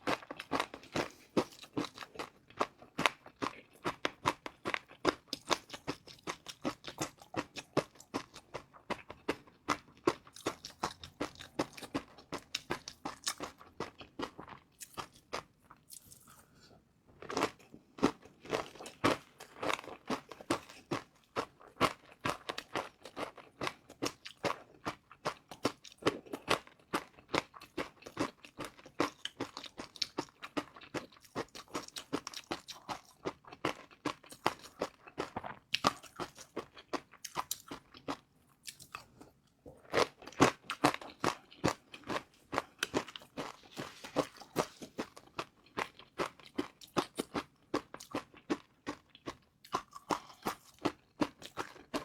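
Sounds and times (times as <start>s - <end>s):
chewing crispy noodles: 0.0s - 16.6s, 17.2s - 52.0s.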